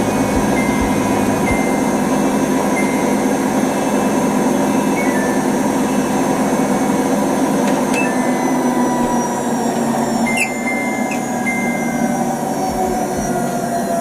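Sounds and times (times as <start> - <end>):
washing machine spin rumble: 0.0 - 14.0.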